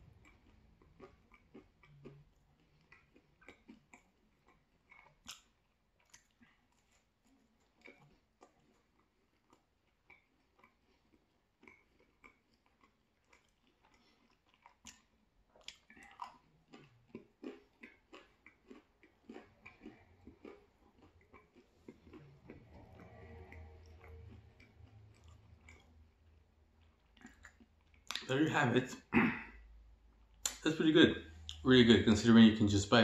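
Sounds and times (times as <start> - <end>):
person chewing crisp pizza: 0.0 - 31.9.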